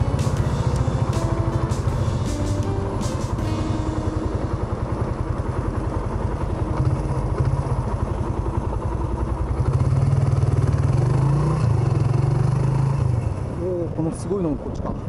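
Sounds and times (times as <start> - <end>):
motorcycle engine idling: 0.0 - 14.1.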